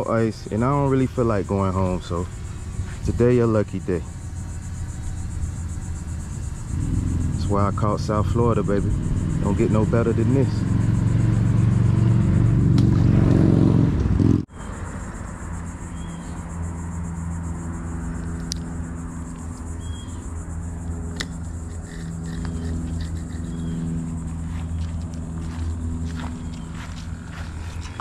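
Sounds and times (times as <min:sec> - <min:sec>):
low engine drone: 0:00.0 - 0:28.0
loud engine: 0:02.5 - 0:28.0.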